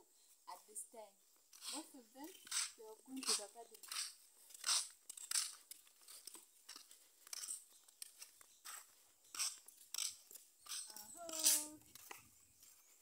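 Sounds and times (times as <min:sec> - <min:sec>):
footsteps crunching on dirt: 0:01.4 - 0:13.0.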